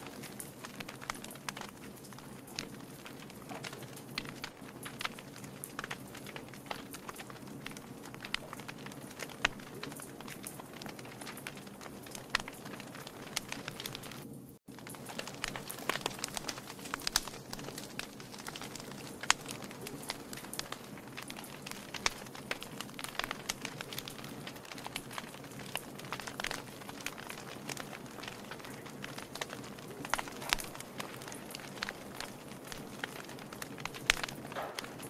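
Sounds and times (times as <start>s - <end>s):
logs crackling in a fireplace: 0.0s - 35.0s.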